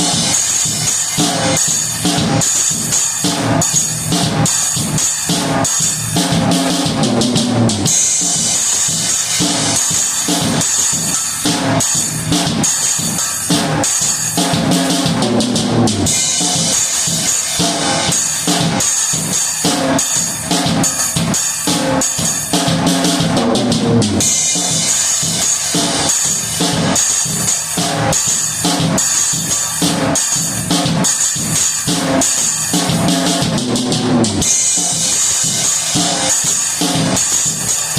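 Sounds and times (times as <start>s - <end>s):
drum kit groove: 0.0s - 37.9s.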